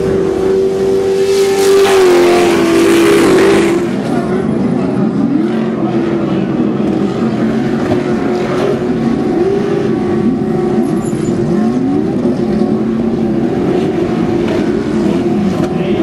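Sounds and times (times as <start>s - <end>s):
race truck engines revving: 0.0s - 16.0s.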